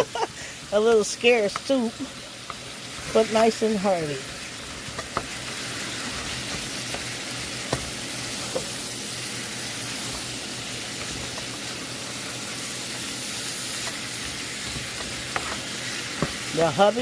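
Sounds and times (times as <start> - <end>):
meat and onions sizzling: 0.0 - 17.0.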